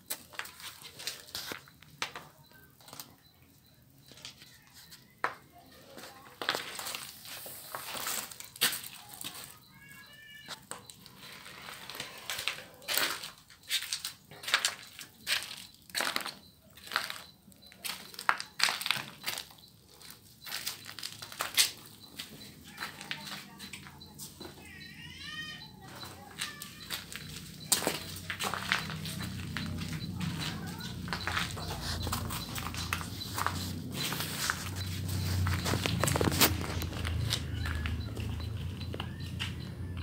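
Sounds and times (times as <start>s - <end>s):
footsteps crunching on rubble: 0.0s - 3.1s, 4.2s - 24.8s, 25.6s - 40.0s.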